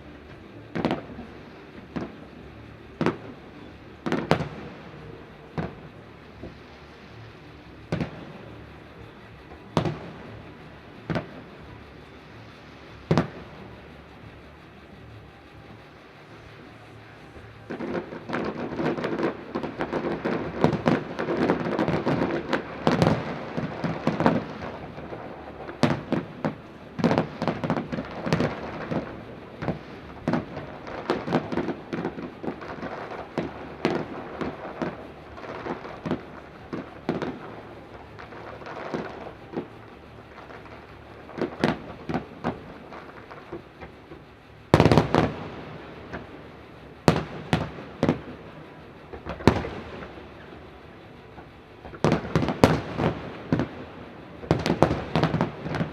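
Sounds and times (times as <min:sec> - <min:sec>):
fireworks exploding: 0:00.0 - 0:55.9.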